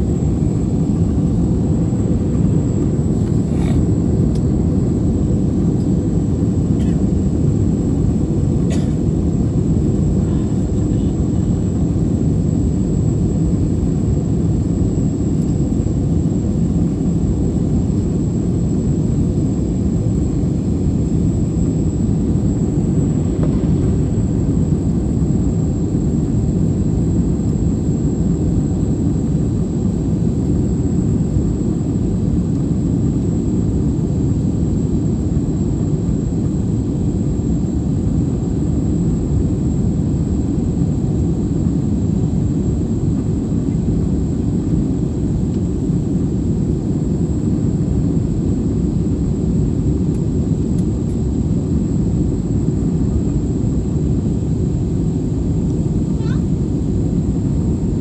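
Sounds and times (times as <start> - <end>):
jet airliner cabin rumble: 0.0 - 58.0.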